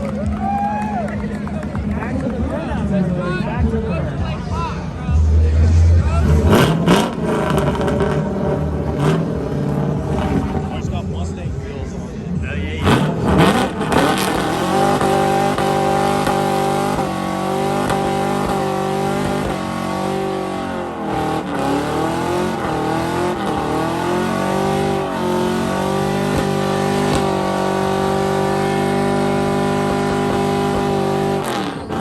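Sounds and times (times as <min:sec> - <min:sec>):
car engine at high revs: 0:00.0 - 0:32.0
tires spinning: 0:00.0 - 0:32.0.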